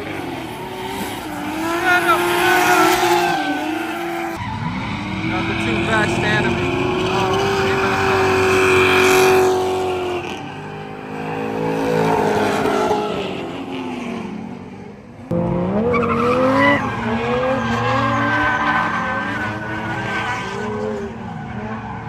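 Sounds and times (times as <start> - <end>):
car engine revving hard: 0.0 - 4.4, 5.0 - 14.4, 15.3 - 21.8
tires squealing and skidding: 0.0 - 14.2, 15.7 - 22.0.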